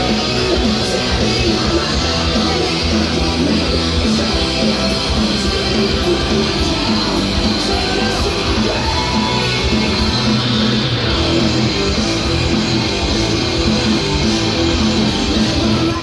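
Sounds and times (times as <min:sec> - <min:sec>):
loud guitar rock music: 0:00.0 - 0:16.0.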